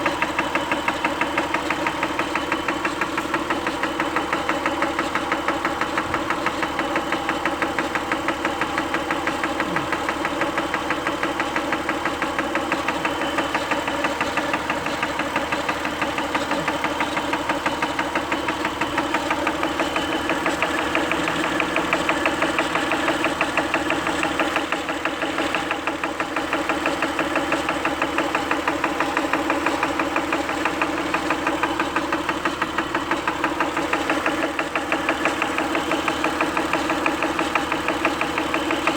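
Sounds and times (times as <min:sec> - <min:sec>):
car engine ticking: 0:00.0 - 0:38.9.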